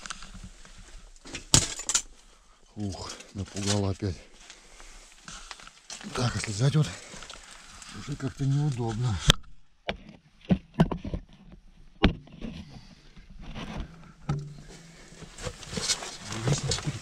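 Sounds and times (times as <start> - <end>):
rustling of movement: 0.0 - 9.3, 12.4 - 17.0.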